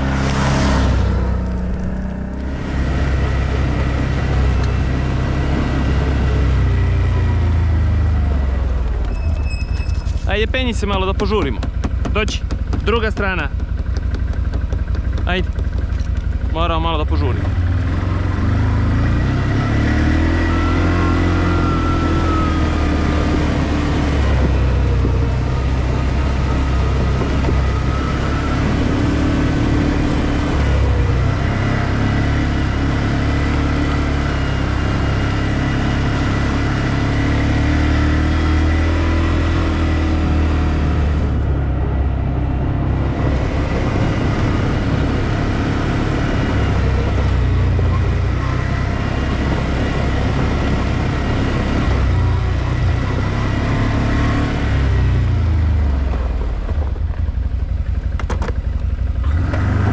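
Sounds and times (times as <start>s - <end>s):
quad bike engine revving: 0.0s - 8.4s, 10.8s - 56.0s, 58.4s - 59.9s.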